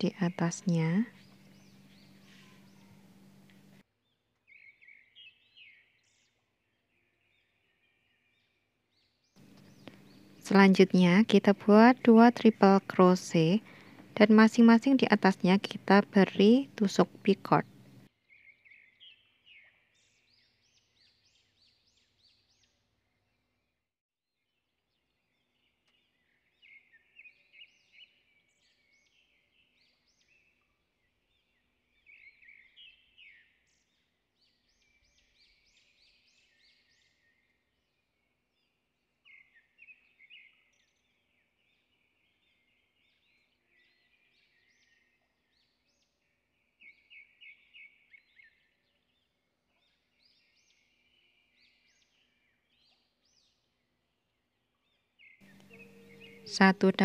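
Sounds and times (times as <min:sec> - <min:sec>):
faint bird chirping: 0:00.0 - 0:23.6, 0:25.0 - 0:57.0.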